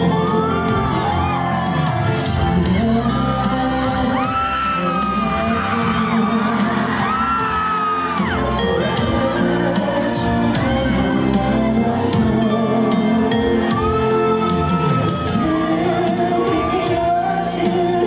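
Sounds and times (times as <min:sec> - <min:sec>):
crowd whooping: 0:00.0 - 0:18.0
live band playing: 0:00.0 - 0:18.0
person singing long notes: 0:00.0 - 0:18.0.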